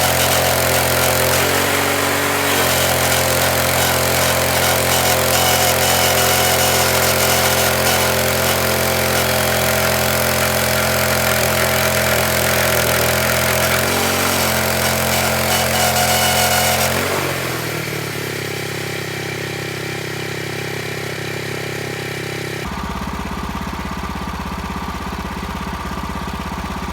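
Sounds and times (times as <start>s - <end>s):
engine running and idling: 0.0s - 26.9s.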